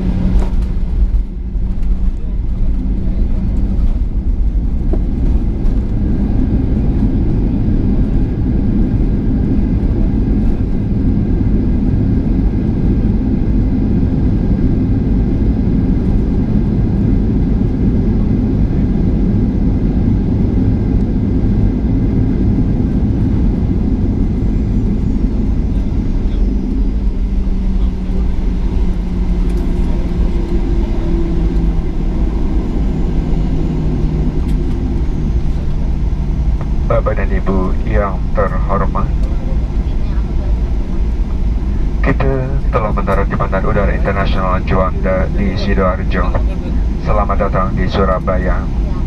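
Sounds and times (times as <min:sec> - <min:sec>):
jet engine cabin rumble: 0:00.0 - 0:49.0.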